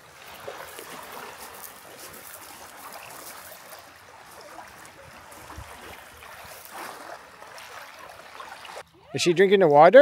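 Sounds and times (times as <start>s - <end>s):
water washing at shore: 0.0s - 8.9s.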